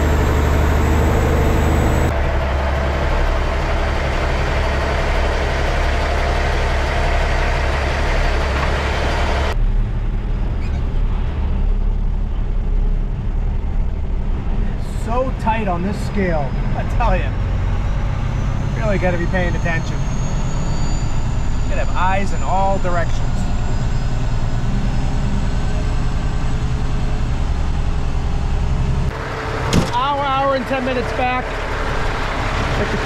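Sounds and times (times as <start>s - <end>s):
truck diesel engine rumbling: 0.0s - 33.0s.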